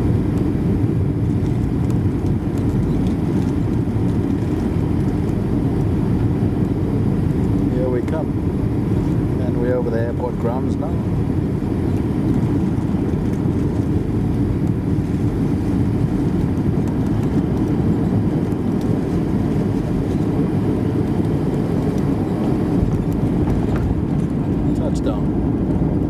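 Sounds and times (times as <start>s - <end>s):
jet engines and rushing air: 0.0s - 26.0s.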